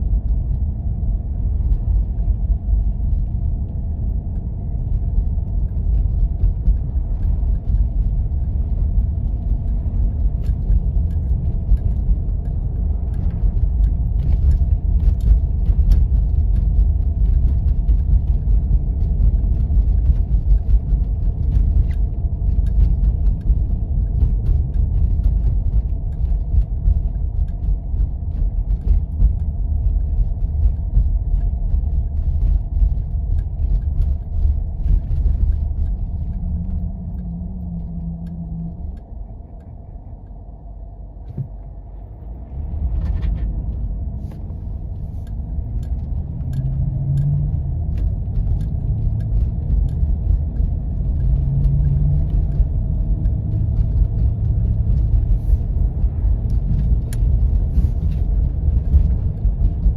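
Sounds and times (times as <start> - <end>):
engine and tyres rumbling: 0.0 - 59.9
small clicks and crackles: 0.1 - 40.4, 42.8 - 59.9.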